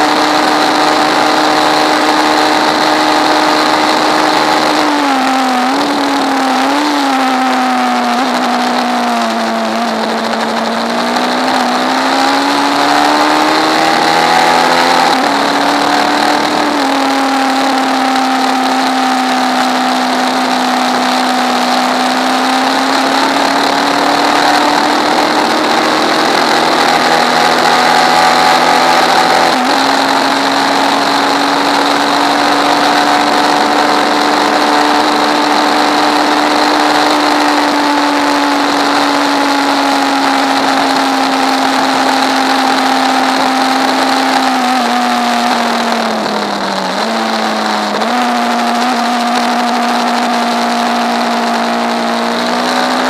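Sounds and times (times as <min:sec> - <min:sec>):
race car engine running hard: 0:00.0 - 0:53.0
steady high whine: 0:00.0 - 0:53.0.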